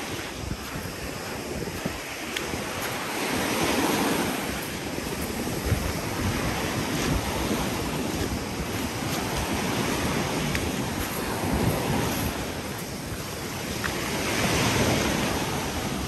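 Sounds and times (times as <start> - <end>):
waves washing onto shore: 0.0 - 16.0
wind buffeting microphone: 0.0 - 16.0.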